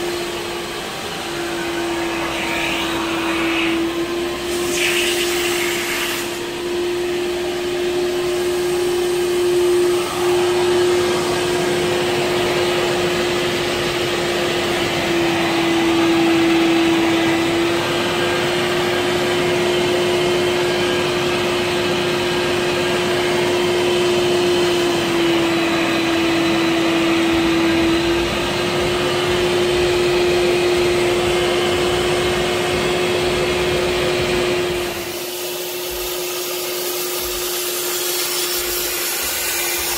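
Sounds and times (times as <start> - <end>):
vacuum motor whining: 0.0 - 39.9.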